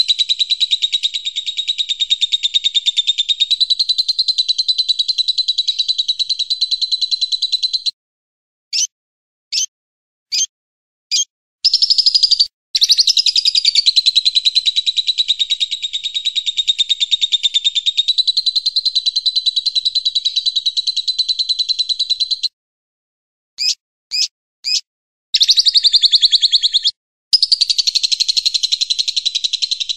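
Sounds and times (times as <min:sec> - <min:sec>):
songbird chirps and trill: 0:00.0 - 0:08.0, 0:08.7 - 0:08.9, 0:09.5 - 0:09.7, 0:10.3 - 0:10.5, 0:11.1 - 0:22.6, 0:23.6 - 0:29.9.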